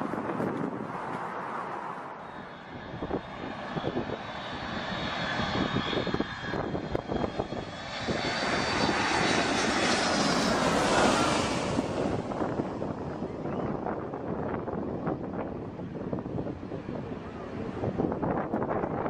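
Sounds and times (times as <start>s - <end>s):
jet airliner engine roar: 0.0s - 19.0s
wind buffeting microphone: 0.0s - 19.0s.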